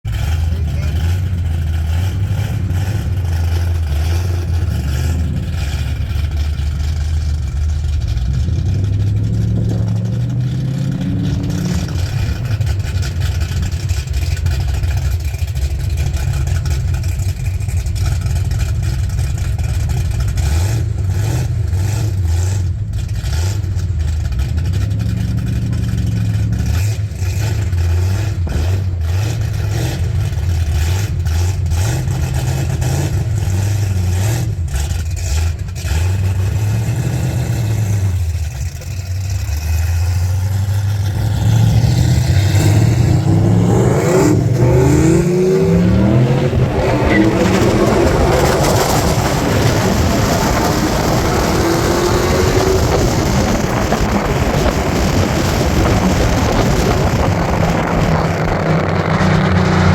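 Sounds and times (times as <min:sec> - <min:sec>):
engine idling and revving: 0:00.0 - 0:59.9.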